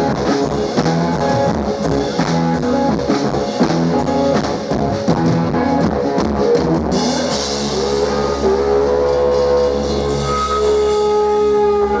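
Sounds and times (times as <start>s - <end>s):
live blues-rock band: 0.0s - 12.0s.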